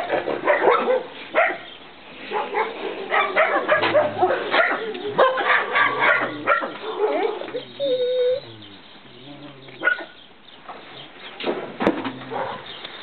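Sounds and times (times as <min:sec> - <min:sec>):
dogs barking and yipping: 0:00.0 - 0:10.4, 0:12.0 - 0:13.0.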